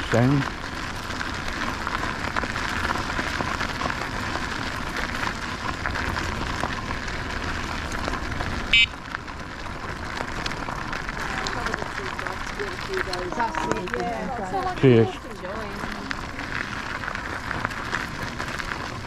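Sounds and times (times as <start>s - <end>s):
bike tyres rolling: 0.0s - 19.0s.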